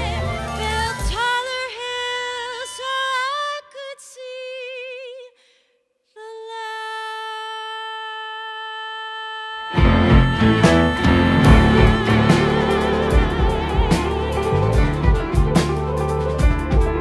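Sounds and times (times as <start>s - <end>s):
woman singing: 0.0s - 5.4s, 6.1s - 15.9s.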